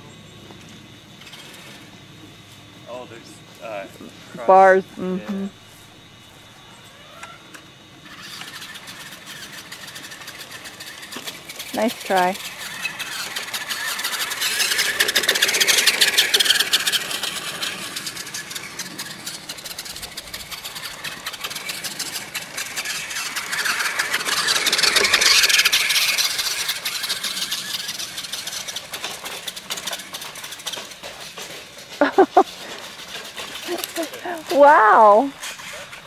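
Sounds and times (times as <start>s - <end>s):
rc truck motor whirring: 0.5s - 2.6s, 5.7s - 36.0s.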